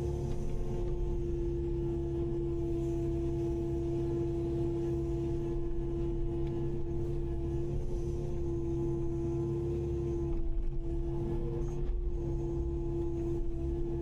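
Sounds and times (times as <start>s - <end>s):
excavator whine and engine rumble: 0.0s - 14.0s.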